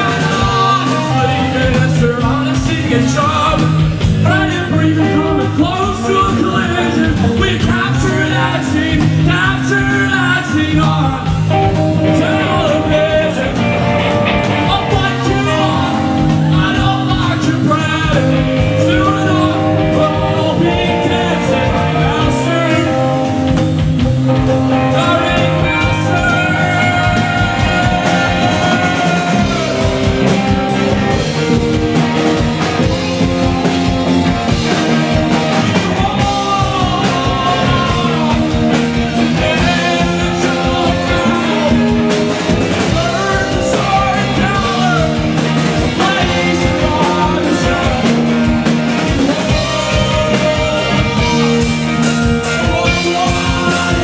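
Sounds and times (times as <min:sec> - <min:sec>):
person singing lead vocal: 0:00.0 - 0:54.0
rock band playing live: 0:00.0 - 0:54.0.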